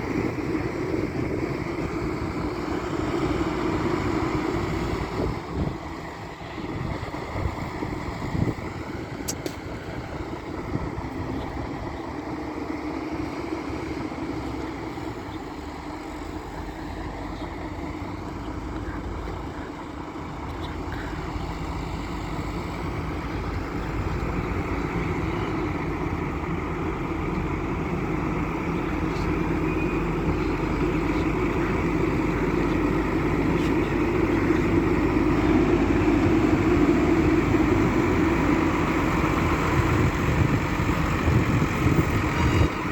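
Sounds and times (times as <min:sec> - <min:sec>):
wheel loader diesel engine running: 0:00.0 - 0:42.9.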